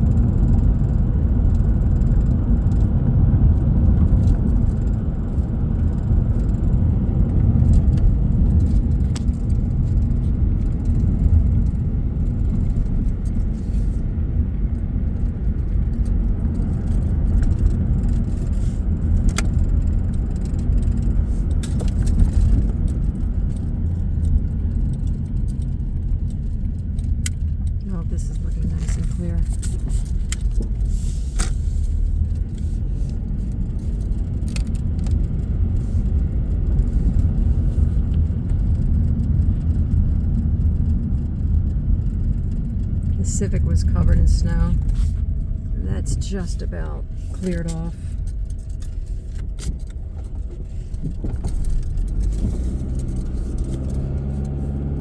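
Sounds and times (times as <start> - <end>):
car driving heard from cabin: 0.0 - 55.0.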